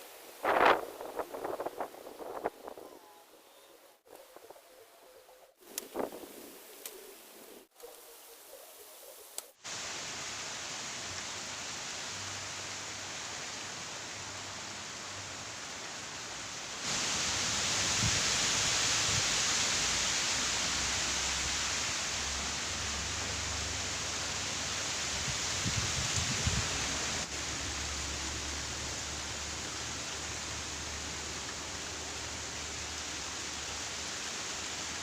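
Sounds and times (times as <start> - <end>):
heavy rain hissing: 0.0 - 3.0, 5.5 - 35.0.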